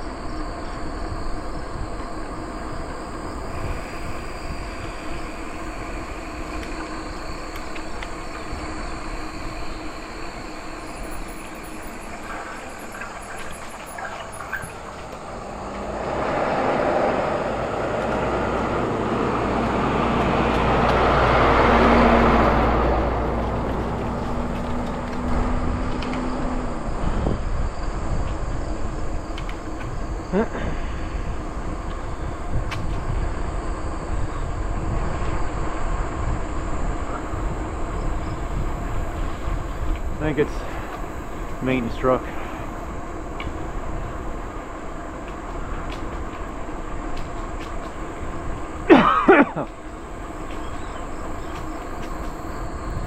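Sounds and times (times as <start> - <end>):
steady rumble and rushing noise: 0.0 - 53.0
truck passing: 0.0 - 53.0.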